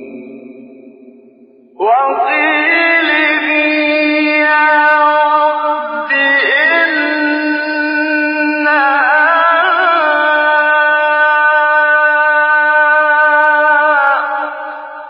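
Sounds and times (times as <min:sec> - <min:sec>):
man reciting in melodic chant: 0:00.0 - 0:00.9, 0:01.8 - 0:15.0.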